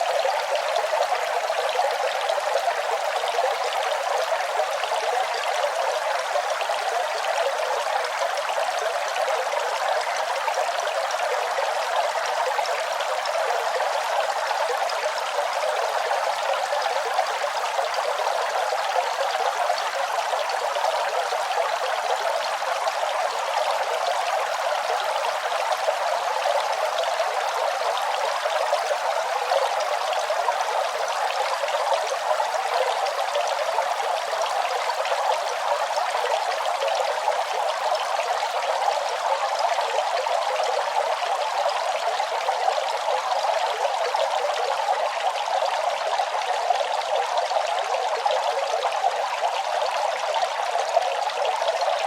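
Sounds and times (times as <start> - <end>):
running water flowing: 0.0 - 52.0.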